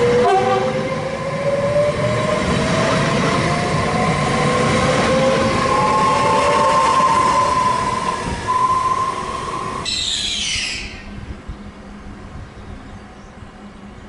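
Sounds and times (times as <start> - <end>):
electric train running past: 0.0 - 14.0.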